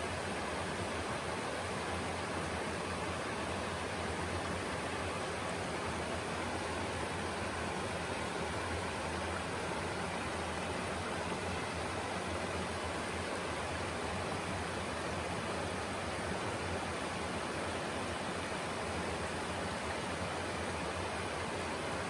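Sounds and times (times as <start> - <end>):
creek water rippling: 0.0 - 22.0.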